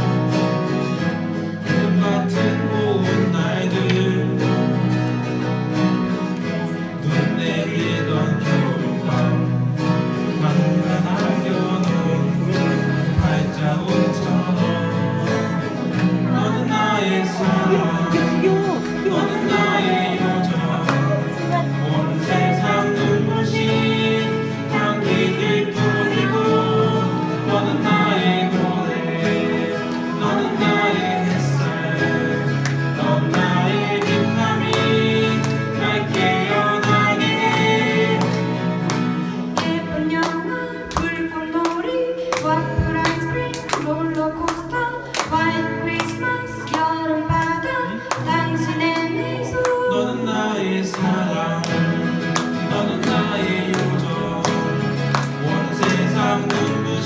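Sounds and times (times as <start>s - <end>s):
guitar accompaniment: 0.0s - 57.0s
people singing: 0.0s - 57.0s.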